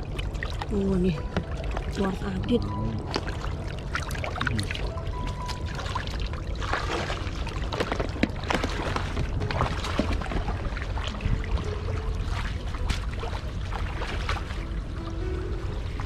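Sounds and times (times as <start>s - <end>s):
steady low rumble: 0.0s - 16.0s
water splashing from wading: 0.0s - 16.0s.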